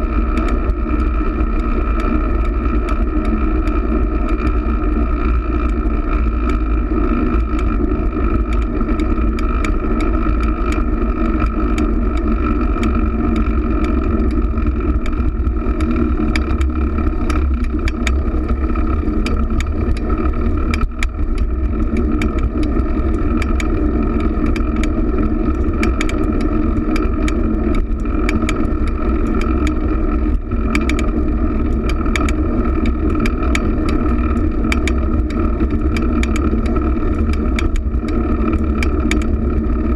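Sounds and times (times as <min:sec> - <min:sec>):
bicycle rattles and clicks: 0:00.0 - 0:39.9
heavy low rumble: 0:00.0 - 0:39.9
wind and road noise: 0:00.0 - 0:39.9.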